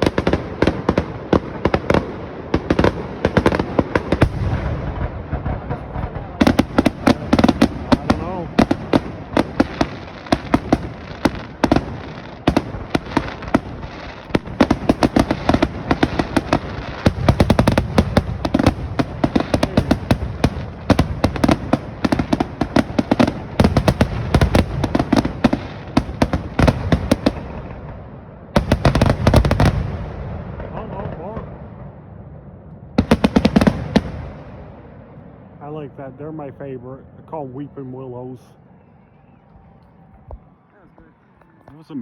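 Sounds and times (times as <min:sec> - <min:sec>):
fireworks bursts and crackling: 0:00.0 - 0:32.0, 0:33.0 - 0:35.0.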